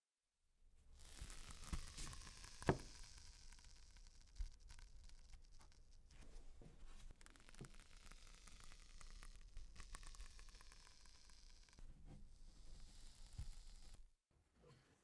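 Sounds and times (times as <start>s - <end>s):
faint crackling and ticking: 1.0s - 14.2s.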